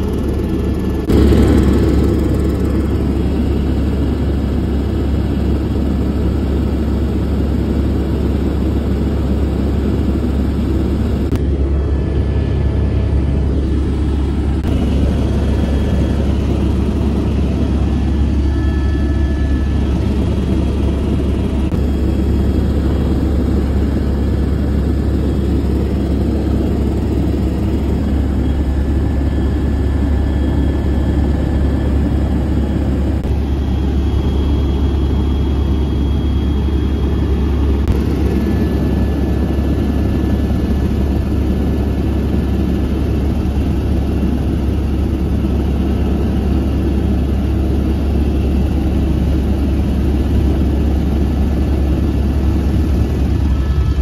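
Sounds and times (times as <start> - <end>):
helicopter drone inside cabin: 0.0 - 54.0.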